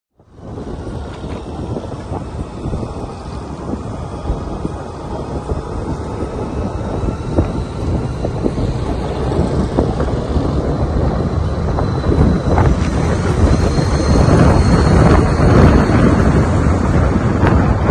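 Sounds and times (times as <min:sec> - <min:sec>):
road rumble: 0:00.1 - 0:17.9
motorcycle engine: 0:00.2 - 0:17.9
wind buffeting microphone: 0:00.2 - 0:17.9.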